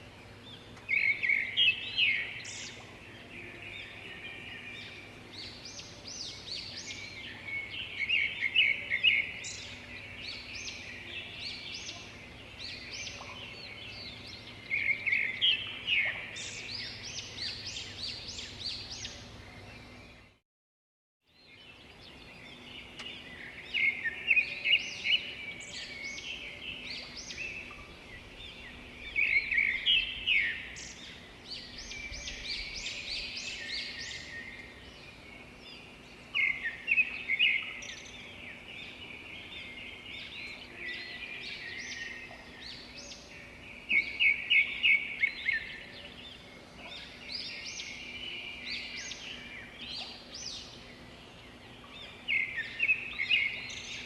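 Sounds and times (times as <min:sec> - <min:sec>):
songbirds chirping and trilling: 0:00.0 - 0:20.4, 0:21.3 - 0:54.0.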